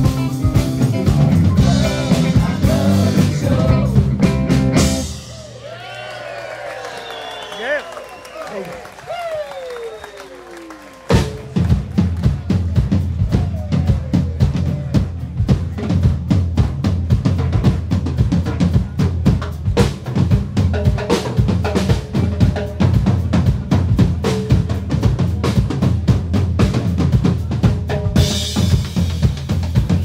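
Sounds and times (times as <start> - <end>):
rock band playing live: 0.0 - 5.9, 11.0 - 30.0
bass guitar: 0.0 - 6.0, 11.1 - 30.0
drum kit: 0.0 - 6.0, 11.0 - 30.0.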